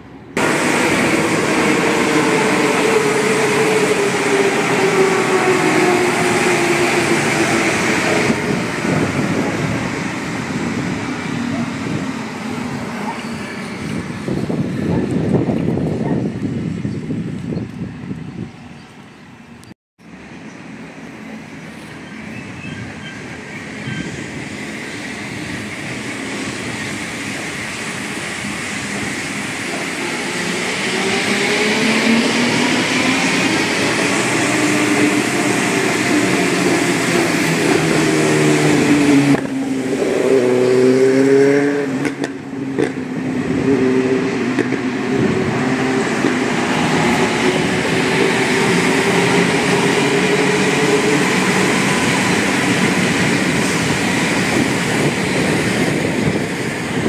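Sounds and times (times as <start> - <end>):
trains rumbling with motor whine: 0.0 - 57.0.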